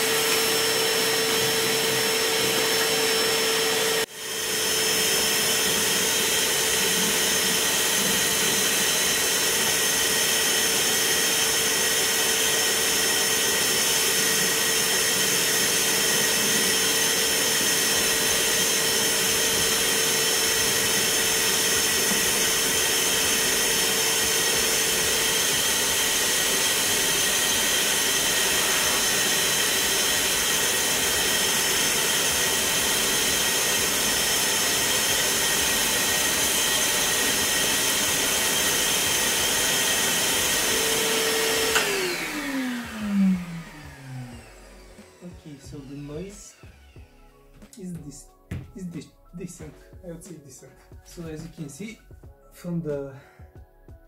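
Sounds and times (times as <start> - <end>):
vacuum cleaner whine: 0.0 - 47.9.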